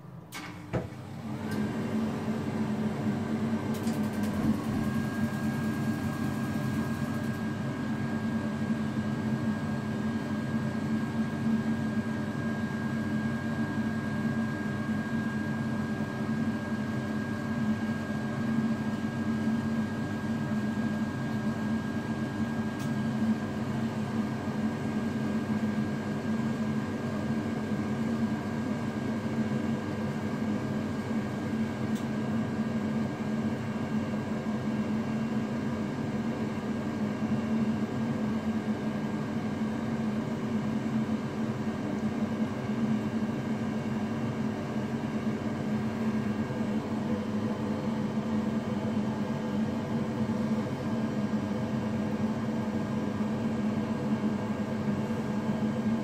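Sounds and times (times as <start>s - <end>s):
turbine hum and whine: 0.0s - 56.0s.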